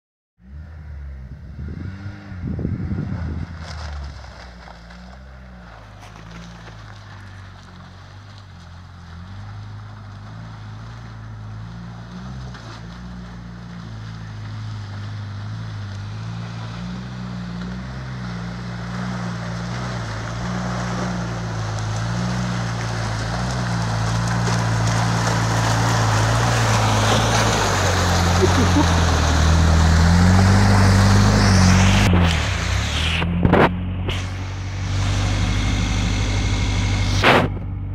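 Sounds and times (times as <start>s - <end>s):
van engine running: 0.4s - 37.9s
water splashing under wheels: 3.5s - 37.9s.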